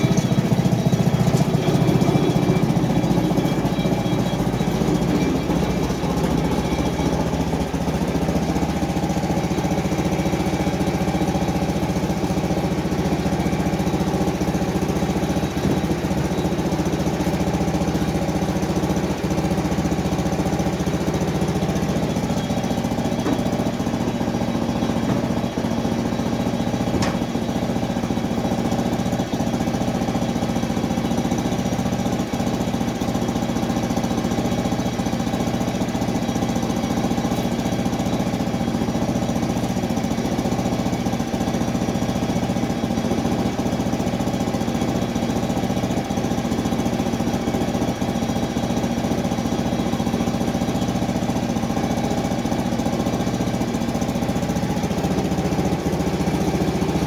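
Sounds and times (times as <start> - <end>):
small gasoline engine running: 0.0 - 57.0.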